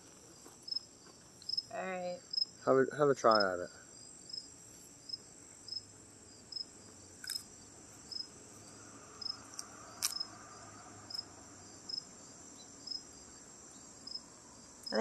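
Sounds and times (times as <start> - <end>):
crickets chirping: 0.0 - 15.0
high insect trill: 0.0 - 15.0.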